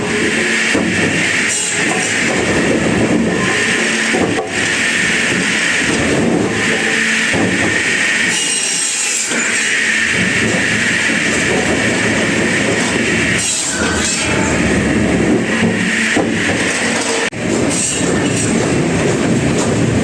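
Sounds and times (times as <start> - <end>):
wood-processing machinery running: 0.0 - 20.0.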